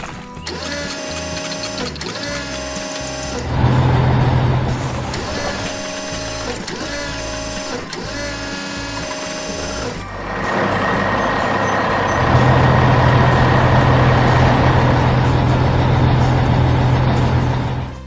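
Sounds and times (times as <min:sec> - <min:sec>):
wavering mechanical whine: 0:00.6 - 0:18.0
engine hum with hiss: 0:01.0 - 0:18.0.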